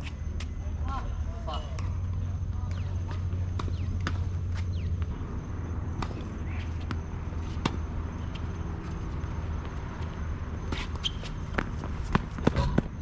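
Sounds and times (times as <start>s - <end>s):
low hum: 0.0s - 13.0s
racquets striking tennis ball: 1.5s - 13.0s
tennis ball bouncing: 1.5s - 13.0s.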